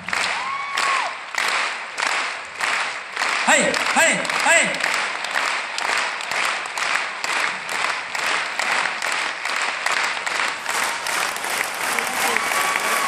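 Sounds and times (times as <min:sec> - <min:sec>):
crowd clapping in rhythm: 0:00.0 - 0:13.0.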